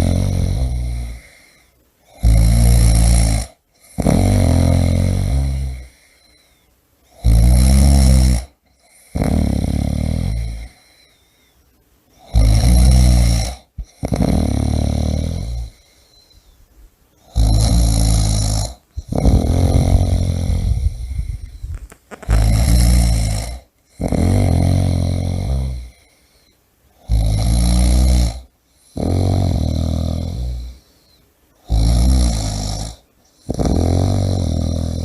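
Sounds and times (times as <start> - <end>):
person snoring: 0.0 - 6.5, 7.1 - 11.2, 12.2 - 16.3, 17.2 - 35.0.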